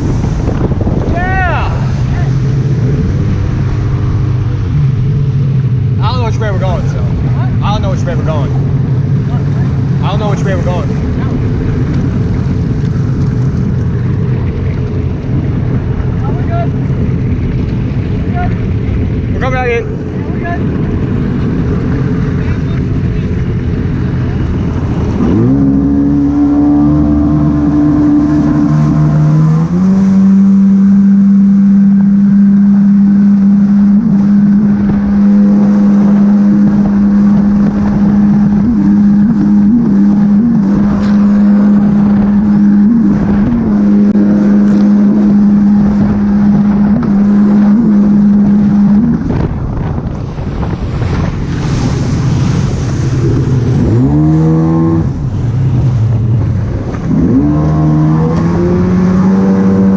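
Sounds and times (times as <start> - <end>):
jet ski engine revving: 0.0 - 59.9.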